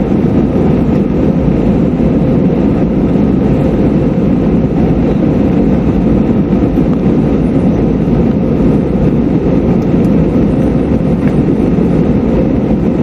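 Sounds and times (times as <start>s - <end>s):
airflow rushing: 0.0s - 13.0s
jet engine hum: 0.0s - 13.0s.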